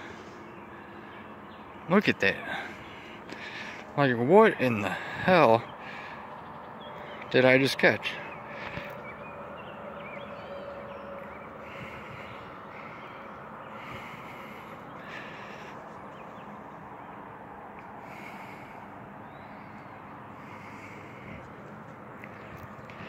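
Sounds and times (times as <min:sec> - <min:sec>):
bird calling: 0:00.0 - 0:23.0
steady outdoor hiss: 0:00.0 - 0:23.0.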